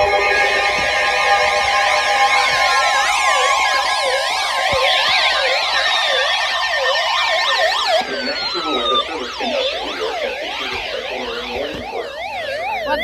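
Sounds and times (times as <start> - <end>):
sirens wailing: 0.0 - 13.0.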